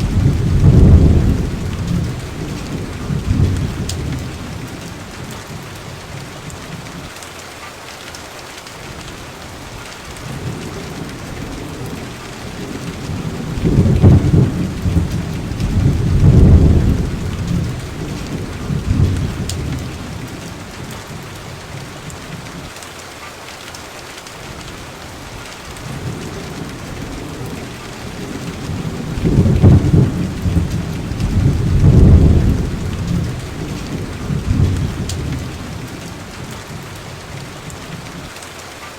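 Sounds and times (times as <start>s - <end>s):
rolling thunder rumbles: 0.0s - 7.0s, 10.1s - 22.6s, 25.7s - 38.3s
steady rain: 0.0s - 38.9s.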